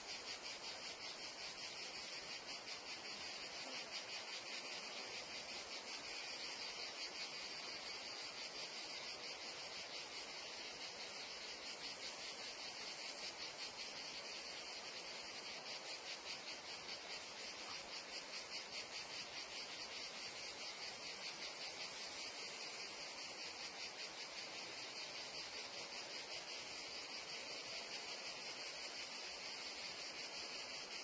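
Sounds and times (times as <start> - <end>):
crickets and cicadas chirring: 0.0 - 31.0.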